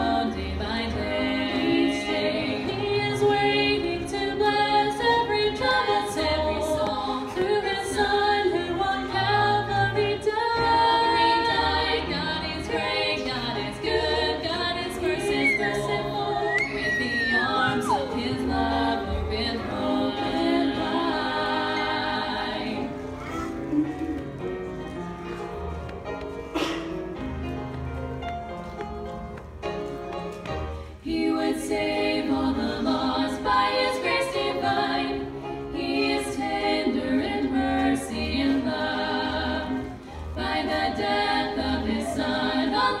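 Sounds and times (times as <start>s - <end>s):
women singing in harmony: 0.0s - 23.2s, 31.0s - 43.0s.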